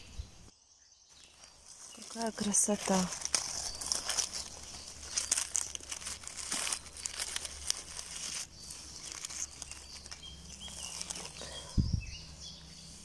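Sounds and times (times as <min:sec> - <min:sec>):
dry leaves rustling and crackling: 0:01.1 - 0:13.0.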